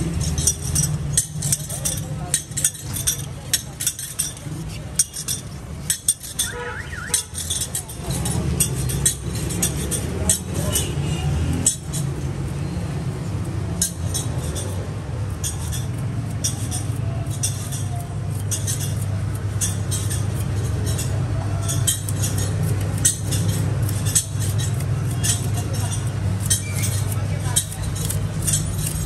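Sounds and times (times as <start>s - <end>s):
knife scraping sugarcane rind: 0.0s - 29.0s.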